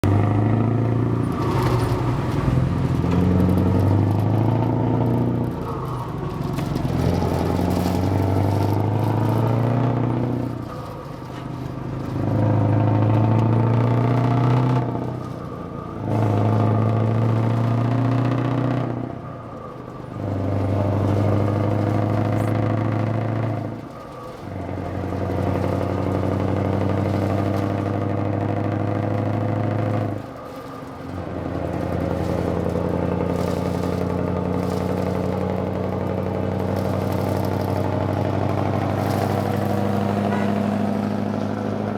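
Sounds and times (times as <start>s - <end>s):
truck engine running hard: 0.0s - 41.9s.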